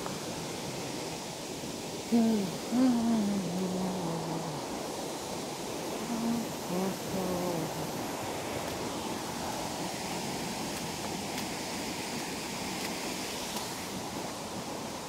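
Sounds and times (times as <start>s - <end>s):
creek and waterfall rushing: 0.0s - 15.0s.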